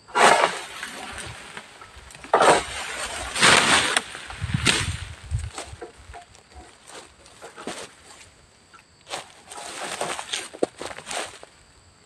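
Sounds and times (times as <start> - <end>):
palm fronds rustling: 0.0 - 11.7.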